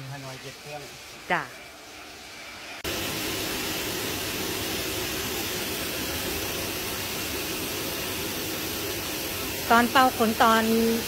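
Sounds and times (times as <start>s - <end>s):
blow dryer running: 0.0s - 11.0s.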